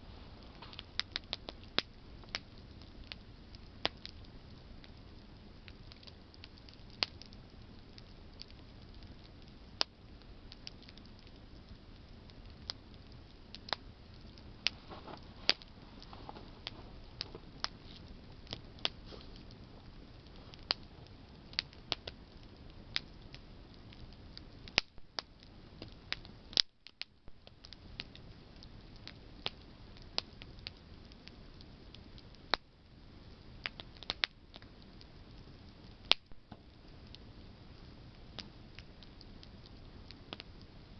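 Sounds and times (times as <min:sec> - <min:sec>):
campfire crackling: 0:00.0 - 0:40.9
low hiss of flame: 0:00.0 - 0:40.9.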